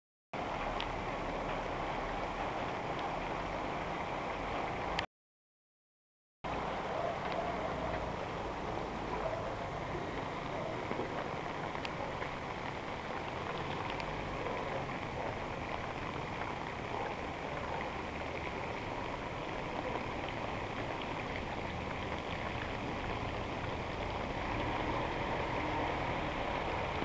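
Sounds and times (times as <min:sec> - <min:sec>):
rain hiss: 0:00.4 - 0:05.0, 0:06.5 - 0:27.0
tyres rolling on wet street: 0:00.4 - 0:05.0, 0:06.5 - 0:27.0.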